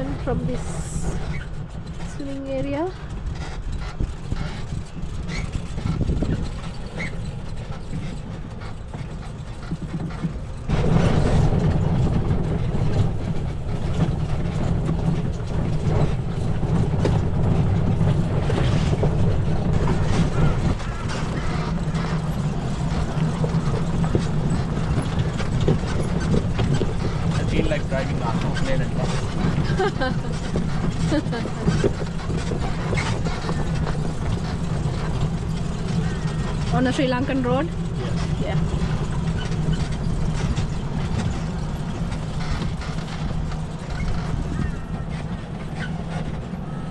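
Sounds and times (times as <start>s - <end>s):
low motor rumble: 0.0s - 46.9s
vehicle chassis bumping and rattling: 0.0s - 46.9s.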